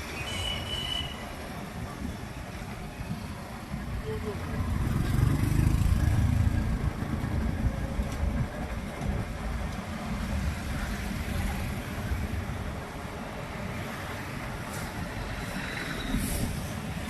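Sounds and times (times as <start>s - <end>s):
motor traffic: 0.0s - 17.0s.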